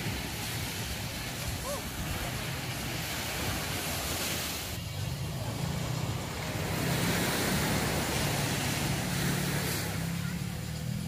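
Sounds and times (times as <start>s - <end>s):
surf washing on a beach: 0.0s - 11.0s.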